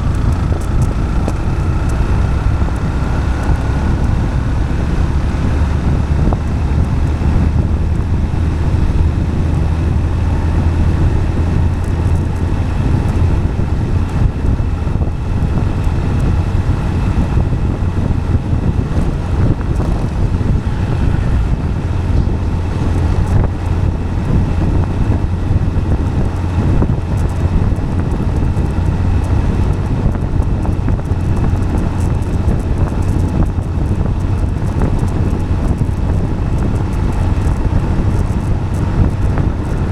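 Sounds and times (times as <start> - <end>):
tyres rolling on asphalt: 0.0 - 39.9
wind buffeting microphone: 0.0 - 39.9.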